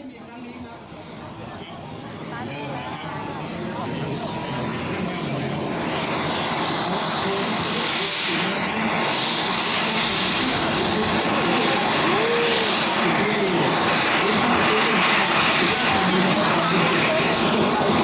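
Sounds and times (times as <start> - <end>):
jet engine spooling up: 0.8 - 18.0.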